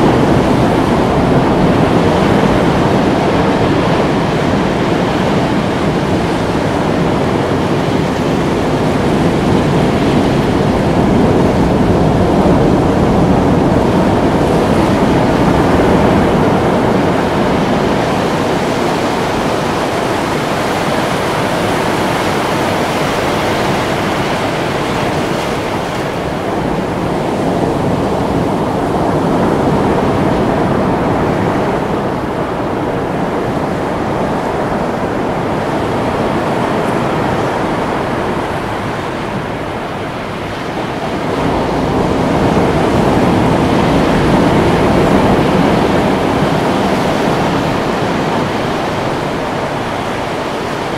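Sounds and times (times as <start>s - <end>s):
breaking ocean waves: 0.0s - 50.9s.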